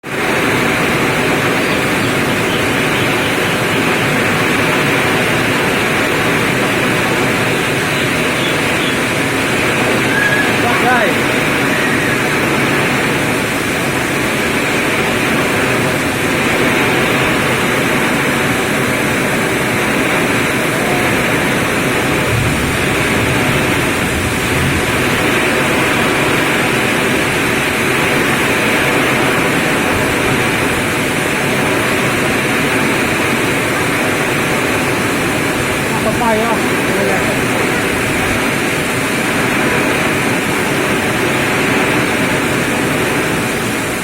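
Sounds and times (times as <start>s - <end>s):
strong storm wind rushing: 0.0s - 44.0s.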